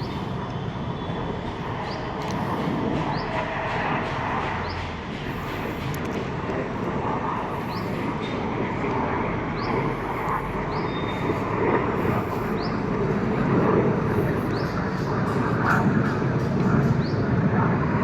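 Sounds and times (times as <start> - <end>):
jet aircraft rumble overhead: 0.0 - 18.0.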